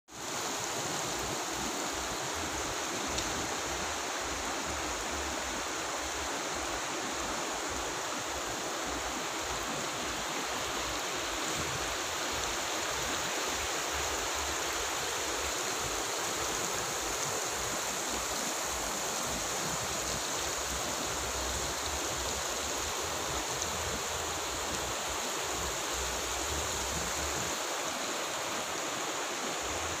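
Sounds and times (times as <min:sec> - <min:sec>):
stream rushing over gravel: 0:00.1 - 0:30.0.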